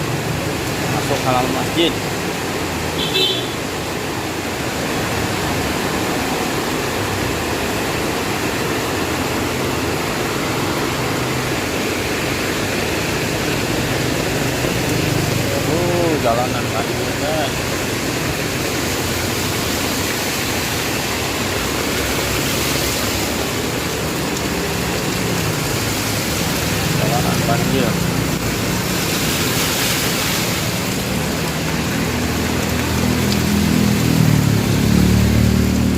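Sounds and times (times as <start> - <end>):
heavy rain pouring: 0.0 - 35.9
vehicle engine hum: 3.9 - 35.9.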